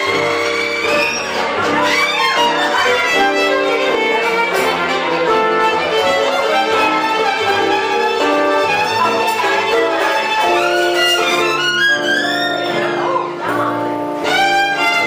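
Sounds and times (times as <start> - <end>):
live band music: 0.0 - 15.0
violin melody: 0.0 - 15.0.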